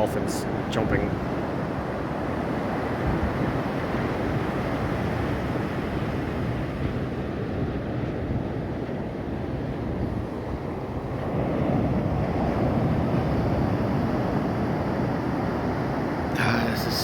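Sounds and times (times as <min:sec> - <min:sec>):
wind buffeting the microphone: 0:00.0 - 0:16.4
ocean surf: 0:00.0 - 0:17.0.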